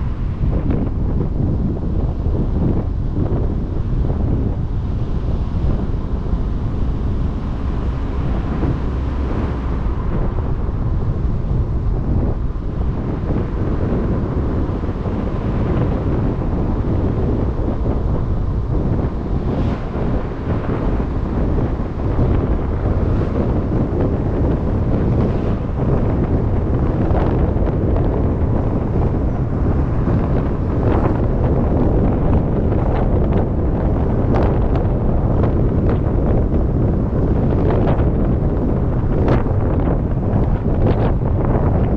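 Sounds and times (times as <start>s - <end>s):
car road noise rumble: 0.0s - 41.9s
wind buffeting microphone: 0.0s - 41.9s.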